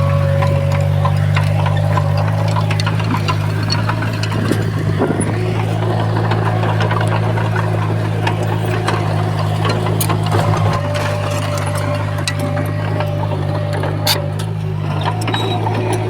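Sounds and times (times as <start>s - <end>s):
bulldozer diesel engine running: 0.0s - 16.0s
sharp clicks and clanks: 0.0s - 16.0s.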